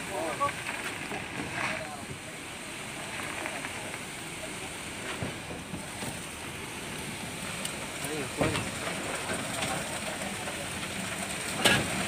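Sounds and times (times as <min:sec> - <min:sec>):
concrete pump running: 0:00.0 - 0:12.0
wet concrete discharging: 0:00.0 - 0:12.0.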